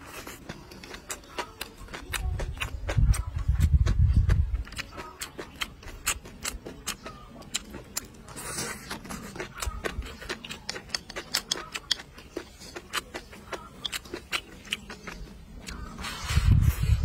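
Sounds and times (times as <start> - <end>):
wet mouth chewing clicks: 0.1 - 16.6.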